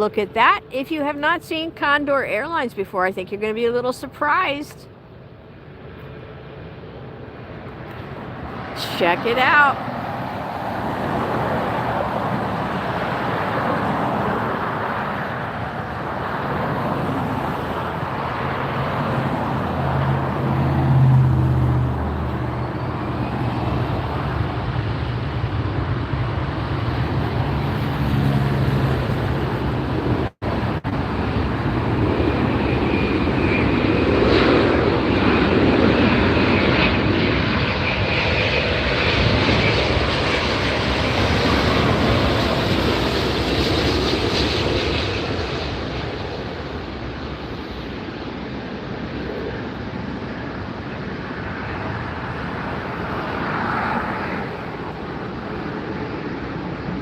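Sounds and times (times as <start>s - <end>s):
jet airliner roaring: 0.0s - 57.0s.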